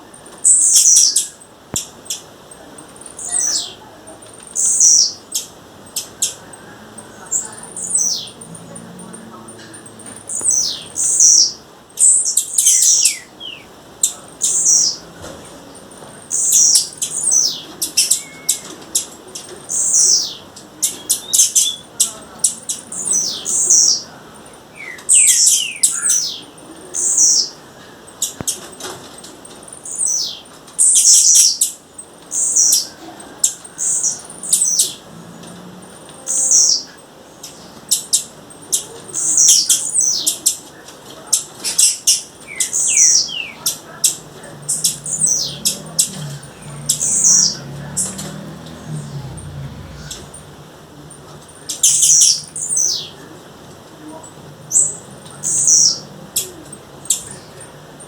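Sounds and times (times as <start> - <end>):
bird chirping: 0.4 - 28.6, 29.7 - 40.5, 41.7 - 53.4.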